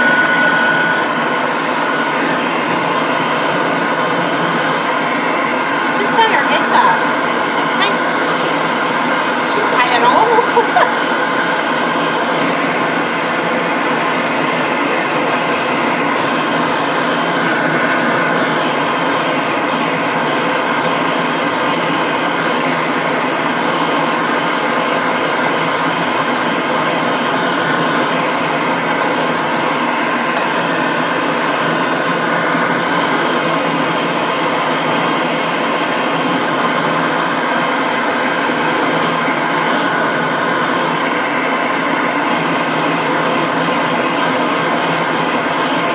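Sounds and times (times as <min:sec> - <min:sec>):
electric blow dryer running: 0:00.0 - 0:45.9.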